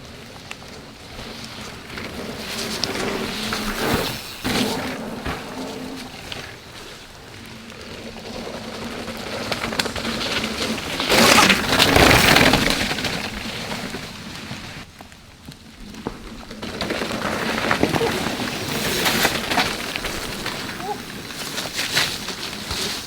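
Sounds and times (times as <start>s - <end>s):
bike tyres rolling on dirt: 0.0s - 23.0s.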